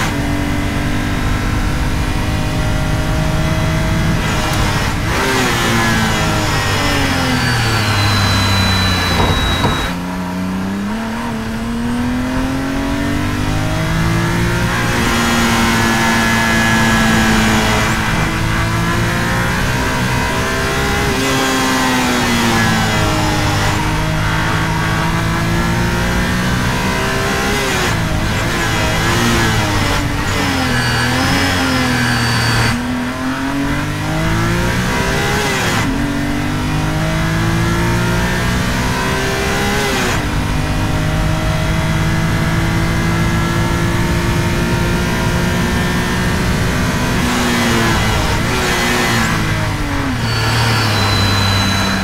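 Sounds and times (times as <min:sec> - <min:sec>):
car engine revving hard: 0:00.0 - 0:52.0.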